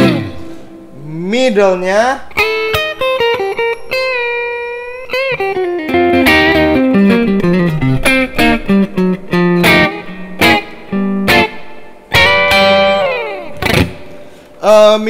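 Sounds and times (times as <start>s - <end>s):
electric guitar crunch tone: 0.0s - 1.0s, 2.3s - 14.6s.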